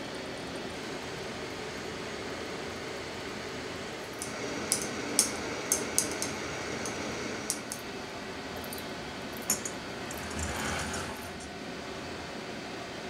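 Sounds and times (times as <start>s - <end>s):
steady background hiss: 1.2s - 11.9s.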